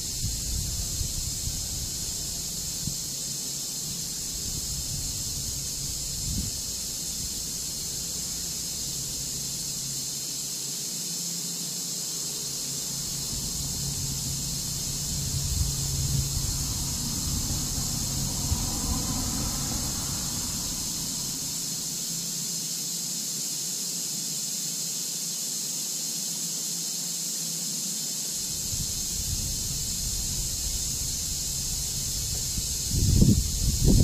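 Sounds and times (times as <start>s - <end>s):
high-pitched hiss: 0.0s - 34.0s.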